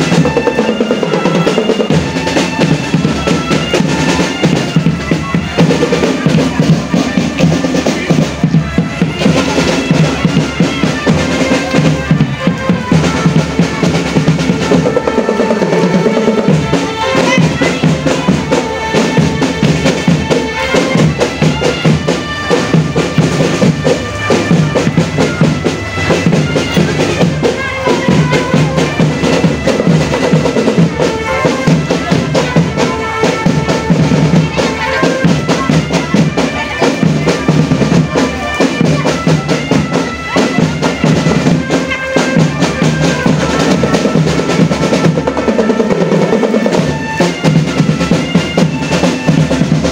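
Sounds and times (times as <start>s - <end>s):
reedy melody: 0.0s - 49.9s
snare and bass drum beats: 0.0s - 49.9s.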